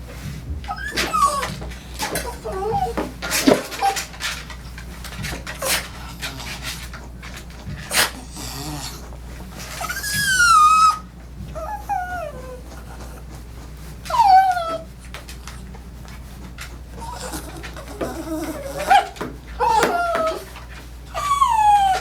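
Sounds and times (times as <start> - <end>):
dog whining: 0.6 - 15.9, 16.9 - 22.0.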